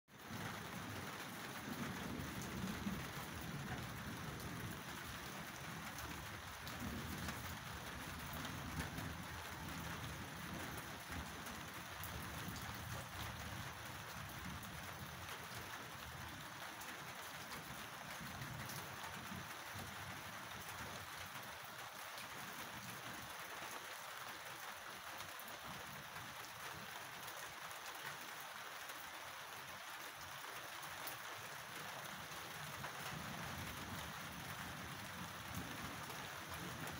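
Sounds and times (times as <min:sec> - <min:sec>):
heavy rain pattering: 0:00.1 - 0:36.9.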